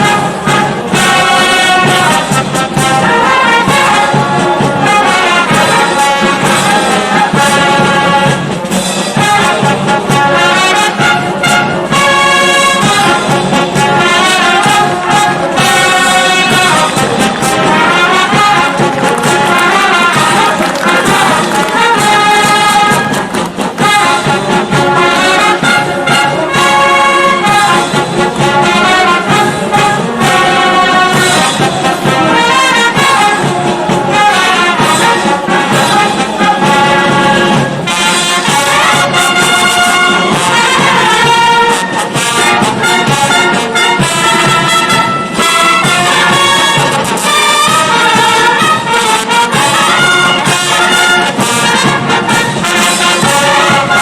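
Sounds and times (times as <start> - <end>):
brass band playing a march: 0.0 - 54.0.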